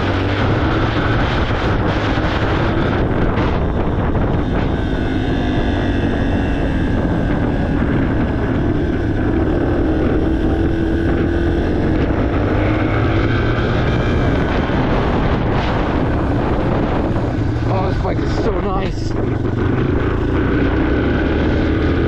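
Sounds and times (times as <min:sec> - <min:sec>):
dirt bike engine running: 0:00.0 - 0:22.0
wind buffeting microphone: 0:00.0 - 0:22.0.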